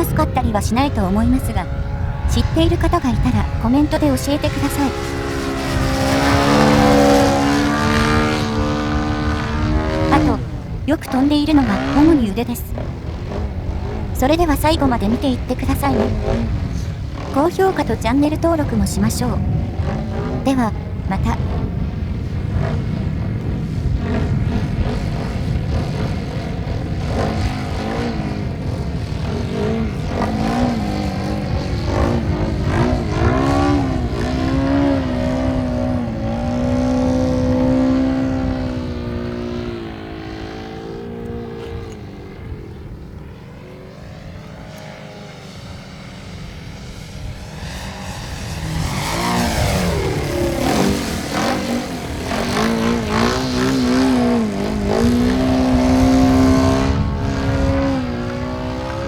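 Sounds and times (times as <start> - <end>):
model airplane engine droning: 0.0 - 59.0.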